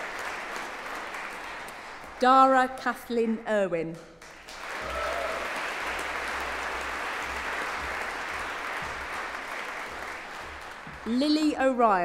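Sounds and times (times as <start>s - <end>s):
audience applauding: 0.0s - 2.2s, 4.2s - 12.0s.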